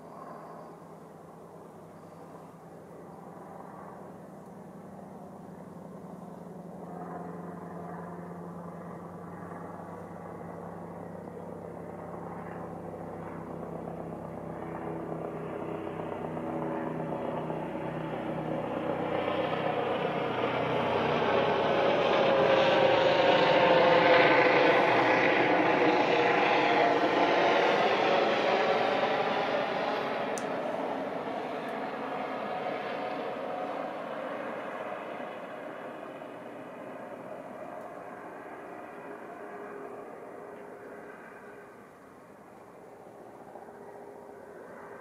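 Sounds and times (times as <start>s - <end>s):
helicopter in flight: 0.0s - 45.0s.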